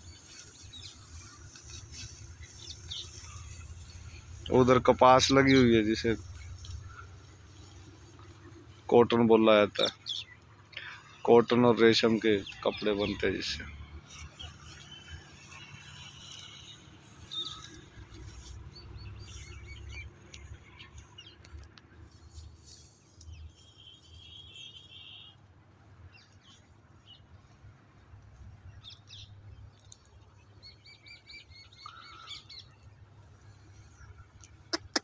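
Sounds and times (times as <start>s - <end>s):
small birds chirping: 0.0s - 25.4s, 26.0s - 35.0s.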